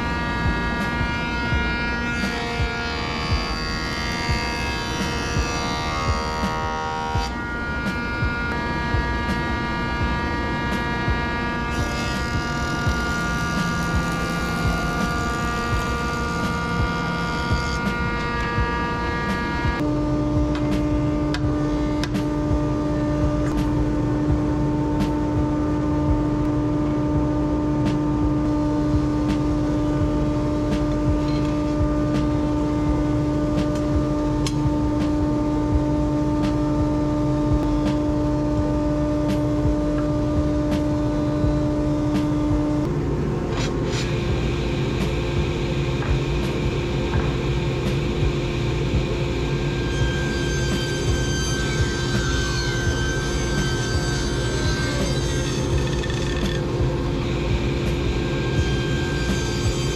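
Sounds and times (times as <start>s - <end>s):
power tool running: 0.0s - 59.9s.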